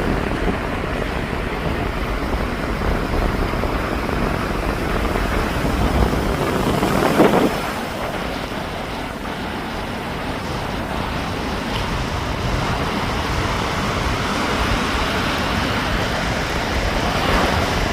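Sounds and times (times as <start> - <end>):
sea surf washing on beach: 0.0 - 17.9
wind buffeting microphone: 0.0 - 17.9.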